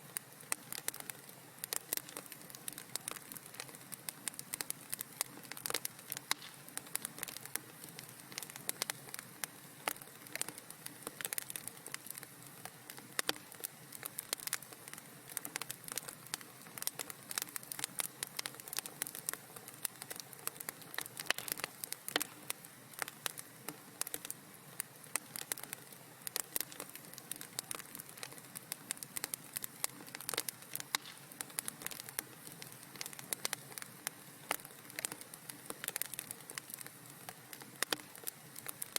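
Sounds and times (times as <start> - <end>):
wood fire crackling and popping: 0.1 - 38.9.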